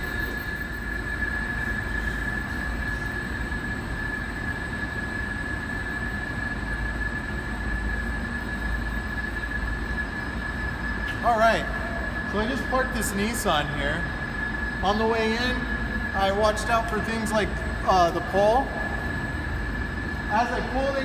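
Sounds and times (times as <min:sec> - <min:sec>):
mechanical hum with high whine: 0:00.0 - 0:21.0.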